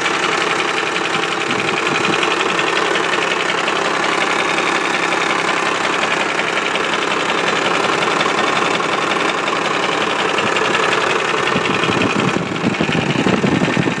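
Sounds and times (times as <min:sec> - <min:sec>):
diesel engine knocking clatter: 0:00.0 - 0:14.0.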